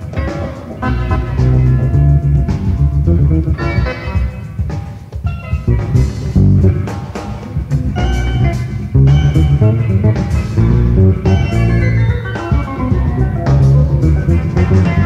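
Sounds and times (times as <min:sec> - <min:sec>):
drum kit: 0:00.0 - 0:15.0
electric bass line: 0:00.0 - 0:15.0
jazz fusion band playing: 0:00.0 - 0:15.0.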